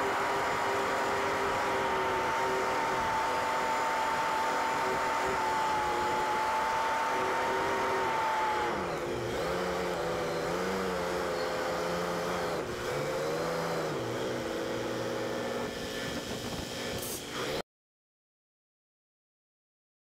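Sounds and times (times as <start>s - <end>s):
road and wind noise: 0.0s - 17.6s.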